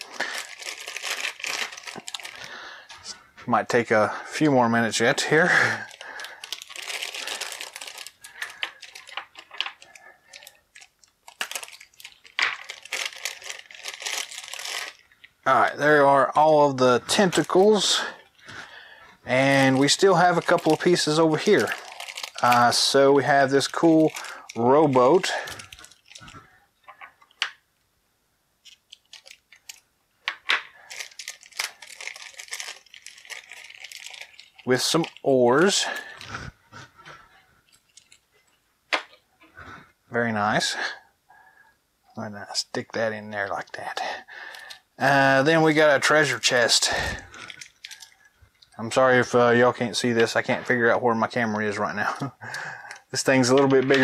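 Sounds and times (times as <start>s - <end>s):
plastic bags crinkling: 0.0s - 3.2s, 4.8s - 27.6s, 28.6s - 39.2s, 44.4s - 50.9s, 51.8s - 54.0s.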